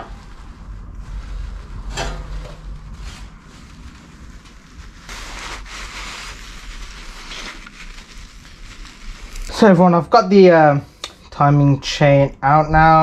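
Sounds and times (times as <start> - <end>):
paper towel rustling and crumpling: 0.0 - 10.8.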